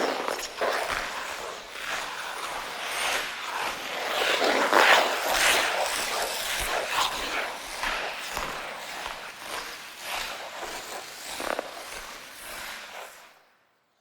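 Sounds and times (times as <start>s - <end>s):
ice skate blades scraping ice: 0.0s - 13.4s.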